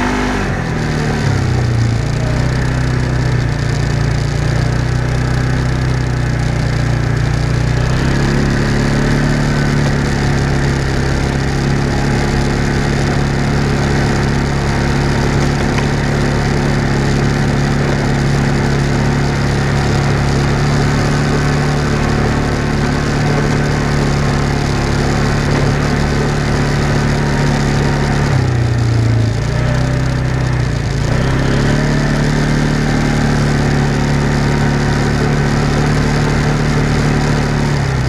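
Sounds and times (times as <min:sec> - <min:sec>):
constant rushing noise: 0:00.0 - 0:38.0
off-road vehicle engine running: 0:00.0 - 0:38.0.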